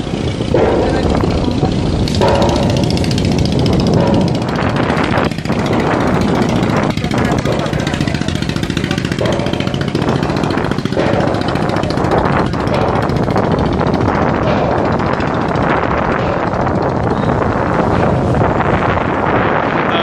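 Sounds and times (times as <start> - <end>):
motor chugging: 0.0 - 20.0
wind noise on microphone: 0.0 - 20.0.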